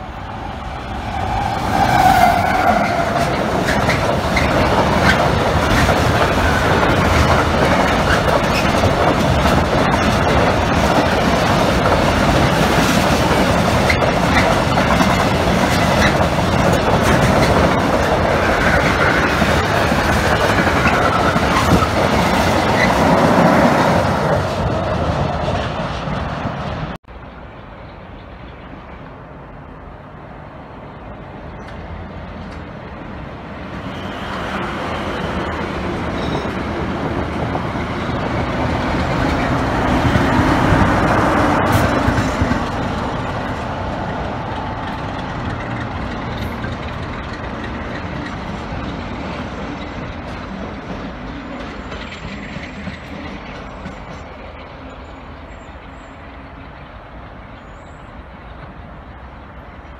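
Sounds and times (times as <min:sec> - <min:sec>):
train wheel noise: 0:00.0 - 0:27.0, 0:28.0 - 0:59.9
diesel locomotive engine passing: 0:00.0 - 0:59.9.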